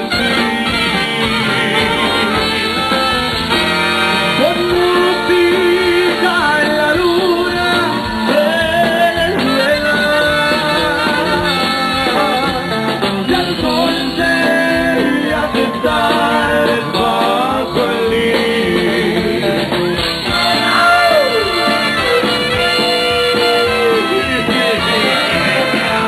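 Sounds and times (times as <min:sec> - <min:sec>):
guitar accompaniment: 0:00.0 - 0:26.0
live band melodic lead: 0:00.0 - 0:26.0
person singing: 0:04.3 - 0:19.8, 0:20.5 - 0:26.0.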